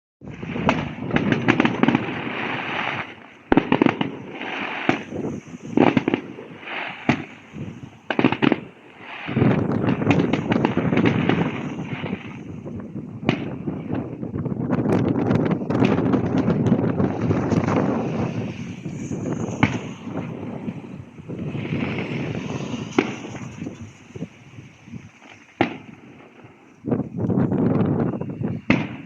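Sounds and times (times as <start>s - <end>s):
fireworks bangs and booms: 0.2s - 29.0s.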